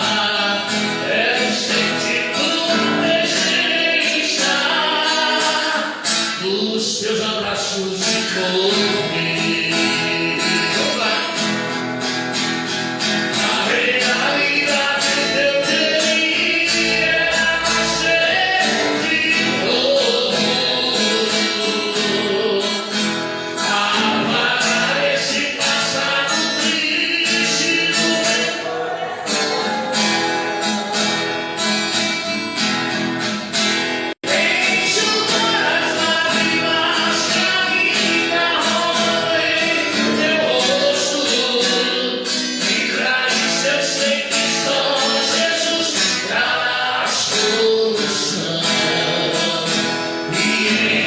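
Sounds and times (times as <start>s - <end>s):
group singing: 0.0s - 11.4s, 13.0s - 32.2s, 34.2s - 51.0s
strummed guitar: 0.0s - 51.0s.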